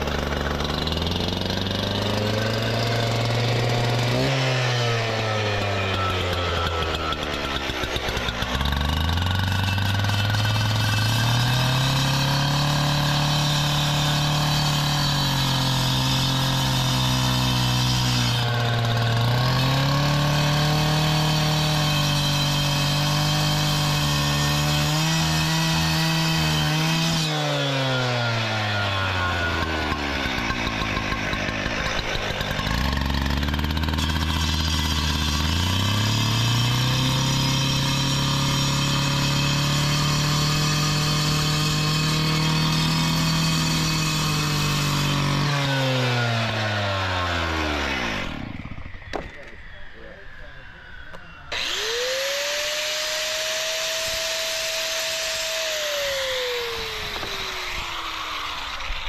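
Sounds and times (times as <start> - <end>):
cut-off saw cutting concrete: 0.0 - 59.0.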